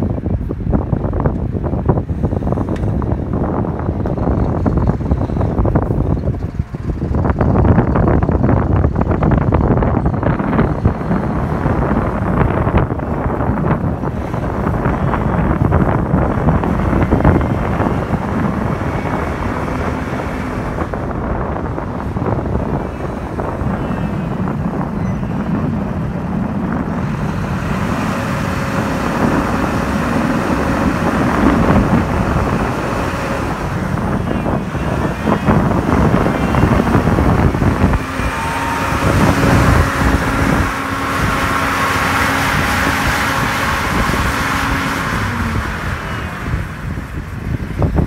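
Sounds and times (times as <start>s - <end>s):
heavy machinery running: 0.0s - 48.0s
wind buffeting microphone: 0.0s - 48.0s.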